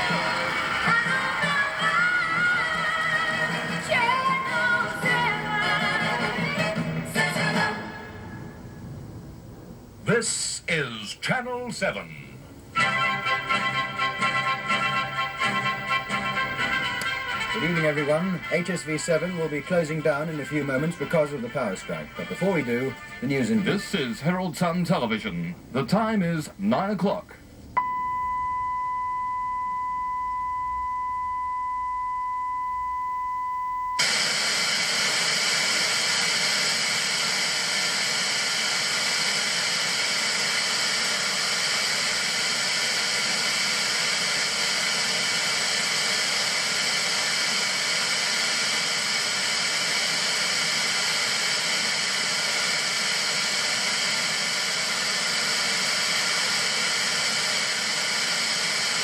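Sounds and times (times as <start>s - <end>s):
television static hiss: 0.0s - 28.4s, 33.8s - 59.0s
steady high television tone: 0.0s - 59.0s.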